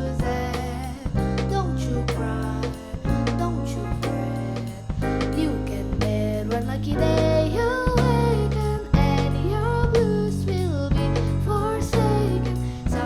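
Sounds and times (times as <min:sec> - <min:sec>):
jazz waltz band: 0:00.0 - 0:13.0.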